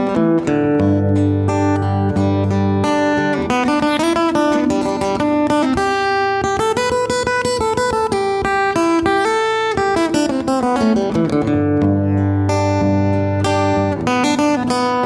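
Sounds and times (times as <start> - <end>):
guitar melody over steady beat: 0.0 - 15.0.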